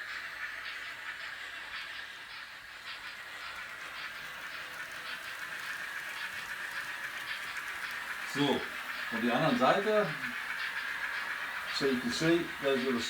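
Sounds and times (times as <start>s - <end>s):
model steam locomotive chuffing: 0.0s - 13.0s
steady whine: 0.0s - 13.0s.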